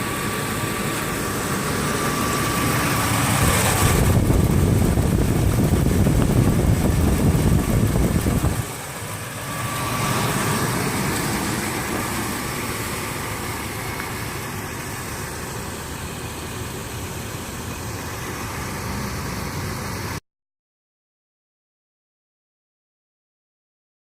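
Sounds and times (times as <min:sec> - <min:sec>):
car engine idling: 0:00.0 - 0:20.2.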